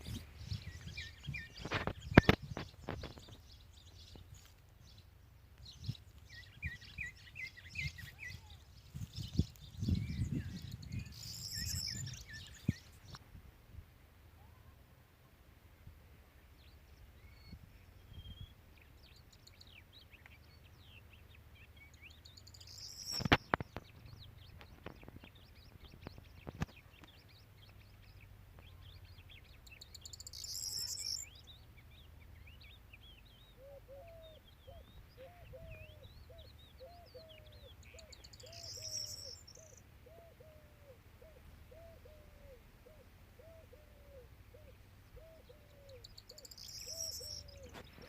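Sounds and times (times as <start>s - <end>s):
birds chirping: 0.0s - 13.2s, 16.4s - 48.0s.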